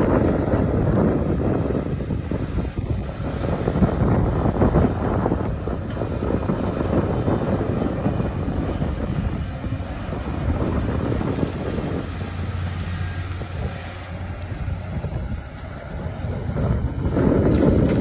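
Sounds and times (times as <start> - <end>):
excavator engine rumble: 0.0 - 18.0
steady hum: 0.0 - 18.0.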